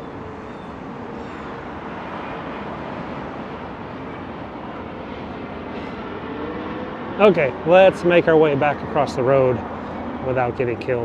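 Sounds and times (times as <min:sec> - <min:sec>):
road traffic hiss: 0:00.0 - 0:11.0.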